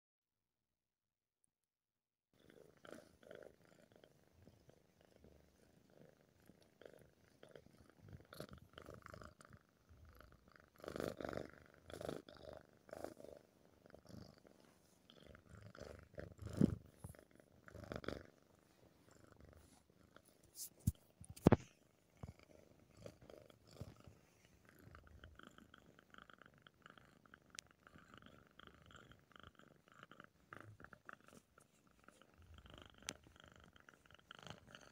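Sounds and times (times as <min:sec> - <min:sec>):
cat purring: 0:02.4 - 0:34.9.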